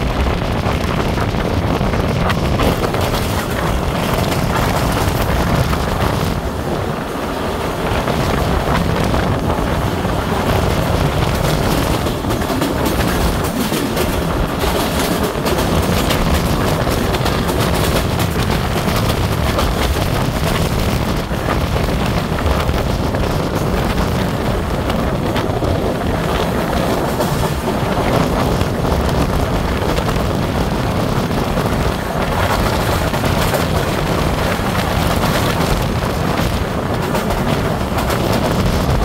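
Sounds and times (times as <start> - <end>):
train running on rails: 0.0 - 39.0
wind buffeting microphone: 0.0 - 39.0.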